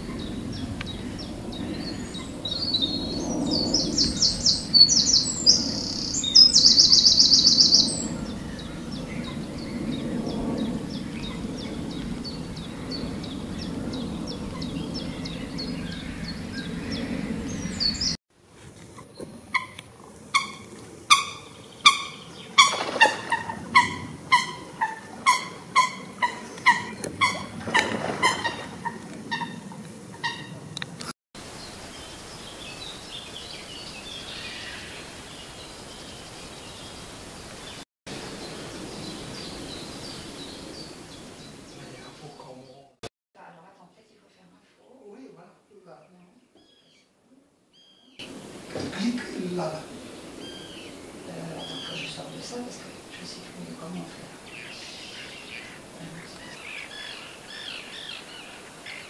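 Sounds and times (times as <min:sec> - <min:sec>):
bird chirping song: 0:00.0 - 0:18.2, 0:19.1 - 0:27.6, 0:31.6 - 0:42.9, 0:46.4 - 0:47.1, 0:47.7 - 0:48.3, 0:49.1 - 0:59.0.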